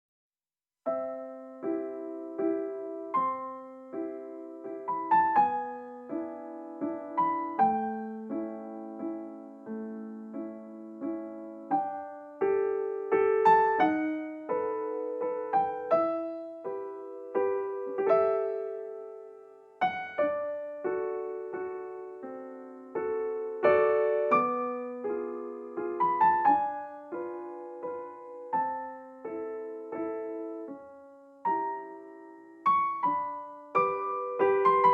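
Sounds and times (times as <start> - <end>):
gentle piano music: 0.9 - 34.9.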